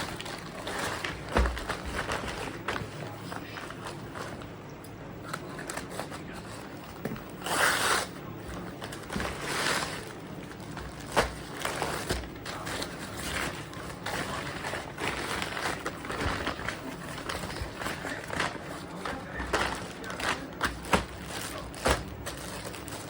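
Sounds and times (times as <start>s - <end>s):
packaging rustling and crinkling: 0.0s - 4.5s, 5.2s - 23.0s.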